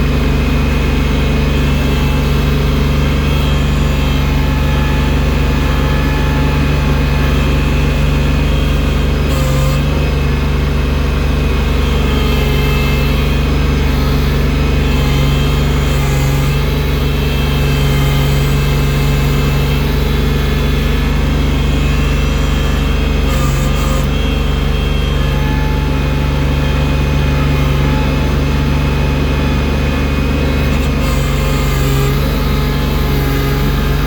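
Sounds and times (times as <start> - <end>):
snow-clearing machine engine running: 0.0 - 34.0.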